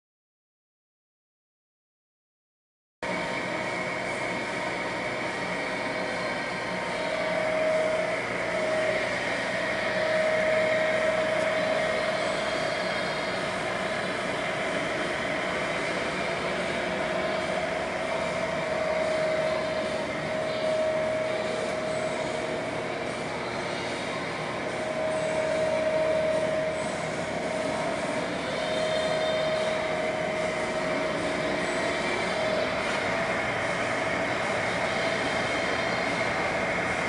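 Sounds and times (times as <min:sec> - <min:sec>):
lathe whirring with whine: 0:03.0 - 0:37.0.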